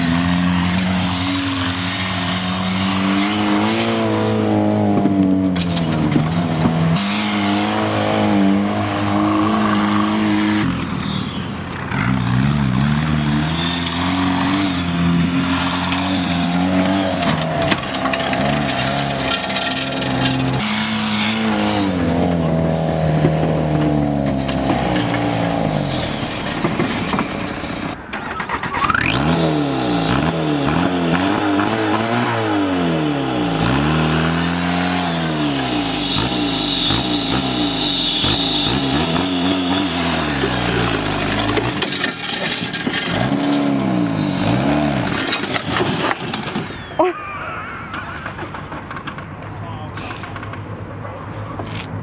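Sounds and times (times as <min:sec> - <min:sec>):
car engine revving hard: 0:00.0 - 0:28.0, 0:28.6 - 0:46.6
tires spinning in dirt: 0:00.0 - 0:52.0.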